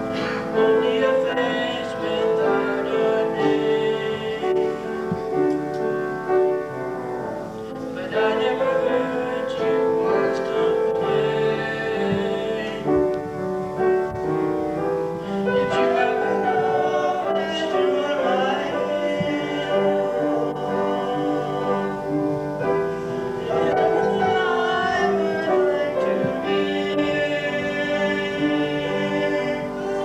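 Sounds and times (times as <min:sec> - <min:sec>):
piano accompaniment: 0:00.0 - 0:30.0.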